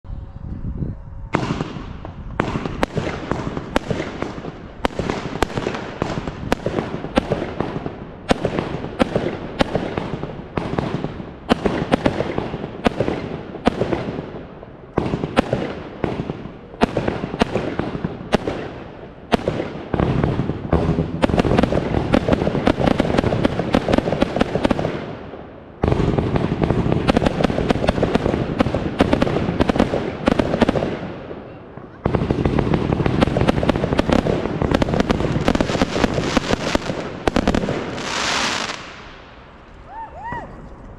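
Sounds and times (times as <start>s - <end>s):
firework bangs: 1.3s - 39.5s
firework crackling: 1.3s - 40.9s.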